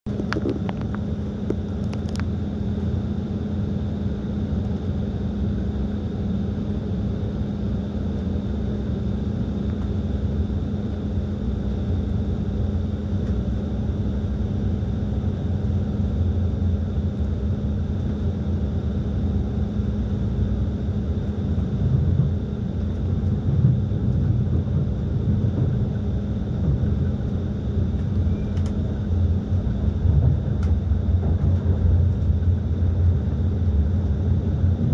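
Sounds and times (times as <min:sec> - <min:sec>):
constant hum: 0:00.1 - 0:34.9
faint high whine: 0:00.1 - 0:34.9
train running rumble: 0:00.1 - 0:34.9.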